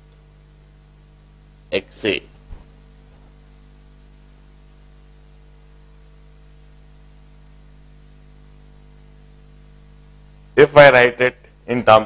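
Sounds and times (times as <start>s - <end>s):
electrical hum with buzz: 0.0s - 12.0s.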